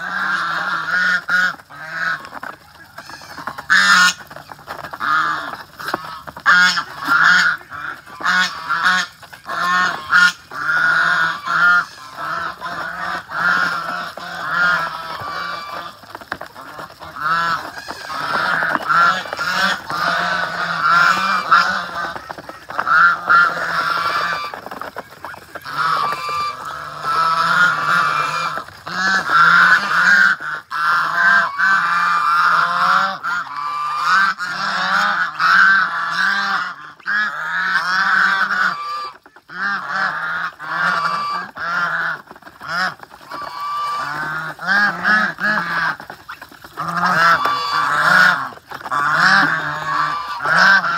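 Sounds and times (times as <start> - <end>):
geese honking: 0.0 - 50.9.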